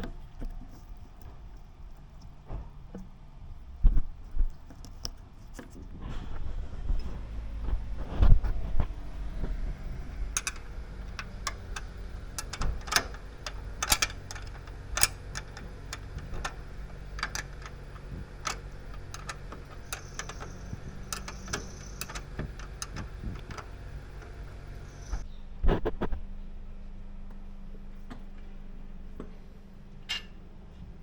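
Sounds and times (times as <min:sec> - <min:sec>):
low hum: 0:05.9 - 0:31.0.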